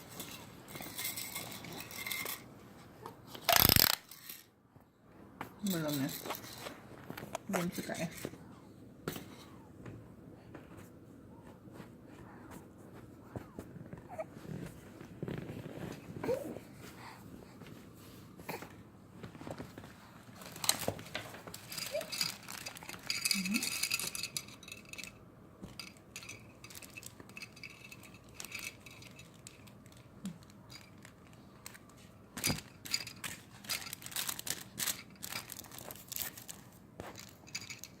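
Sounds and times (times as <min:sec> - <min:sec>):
rustling and crinkling handling: 0:04.9 - 0:08.5, 0:09.1 - 0:38.0.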